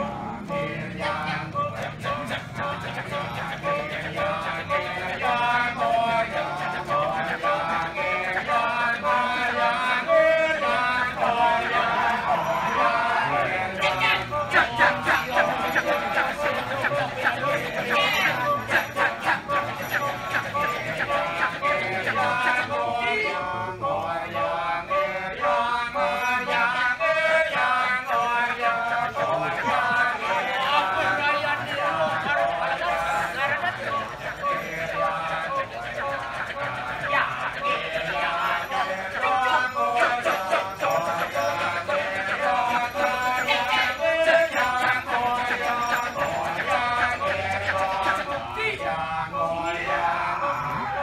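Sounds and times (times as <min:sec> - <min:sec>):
men chanting in chorus: 0:00.0 - 0:51.0.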